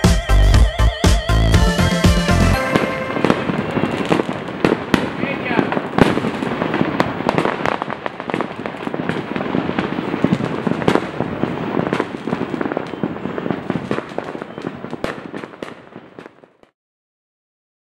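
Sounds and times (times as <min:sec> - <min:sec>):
fireworks crackling and banging: 0:00.0 - 0:16.8.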